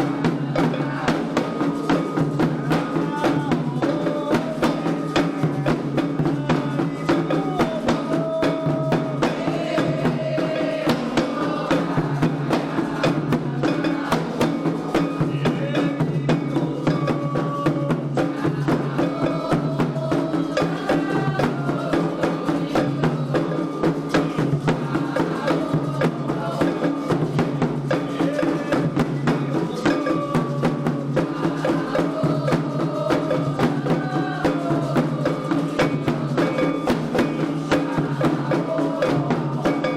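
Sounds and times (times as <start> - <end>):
drums beating fast rhythm: 0.0 - 39.9.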